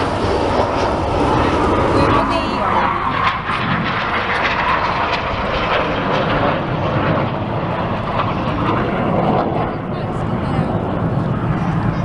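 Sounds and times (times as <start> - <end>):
jet engine flying past: 0.0 - 12.0.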